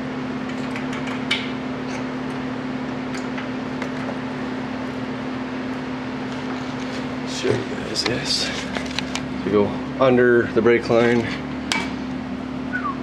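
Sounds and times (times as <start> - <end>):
heater fan humming: 0.0 - 13.0.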